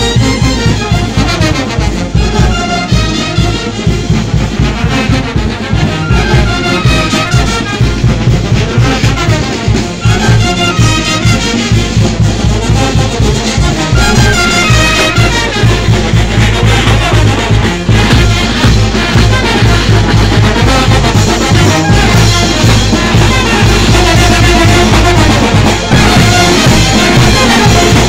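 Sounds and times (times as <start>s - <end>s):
brass instruments playing: 0.0s - 28.0s
steady drum beat: 0.0s - 28.0s.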